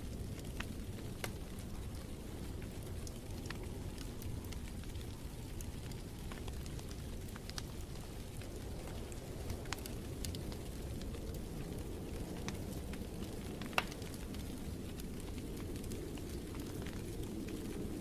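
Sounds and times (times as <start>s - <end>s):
low fire rumble: 0.0s - 18.0s
wood fire crackling and popping: 0.0s - 18.0s.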